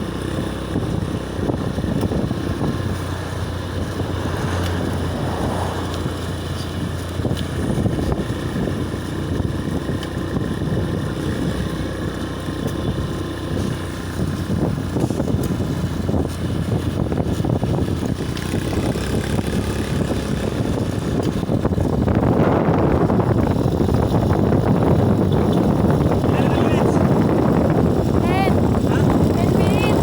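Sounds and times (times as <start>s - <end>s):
traffic hum: 0.0s - 30.0s
wind rumbling on microphone: 0.0s - 30.0s.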